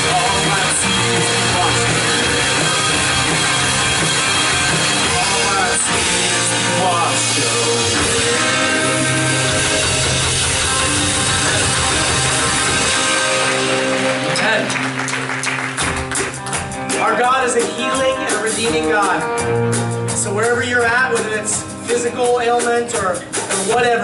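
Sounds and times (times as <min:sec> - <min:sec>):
drums: 0:00.0 - 0:24.0
rock band playing: 0:00.0 - 0:24.0.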